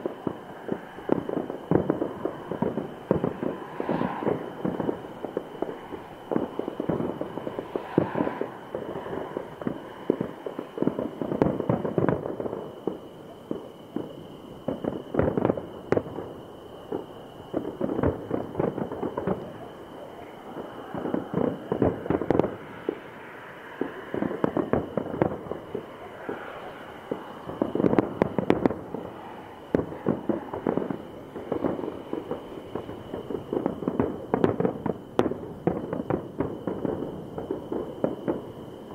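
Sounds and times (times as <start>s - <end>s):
firework shells bursting: 0.0s - 38.8s
firework crackling: 0.0s - 38.9s.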